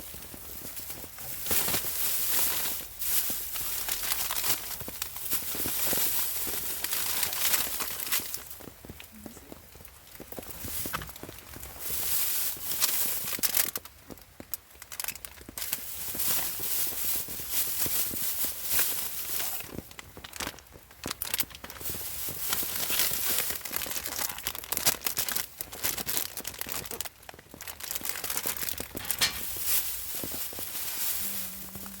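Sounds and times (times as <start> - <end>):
plastic bags crinkling: 0.0 - 32.0.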